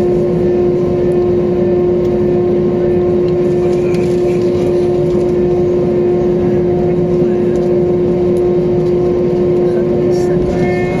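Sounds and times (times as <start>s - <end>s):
aircraft cabin engine drone: 0.0s - 11.0s
constant hum tone: 0.0s - 11.0s.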